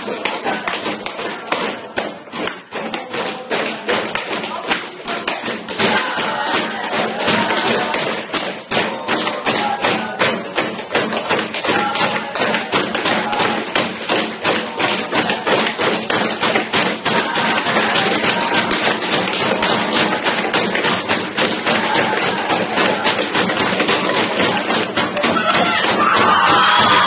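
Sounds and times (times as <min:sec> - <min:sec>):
rhythmic thumps: 0:00.0 - 0:27.0
voices chanting: 0:00.0 - 0:27.0.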